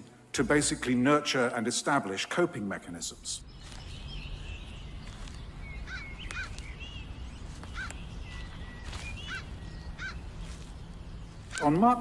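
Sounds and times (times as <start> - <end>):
birds chirping: 0.4 - 12.0.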